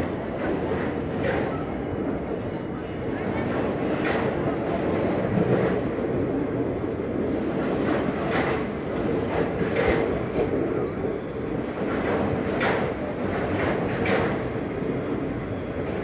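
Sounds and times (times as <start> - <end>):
train wheel clacks: 0.0 - 2.3, 3.0 - 16.0
train coaches rumbling: 0.0 - 16.0.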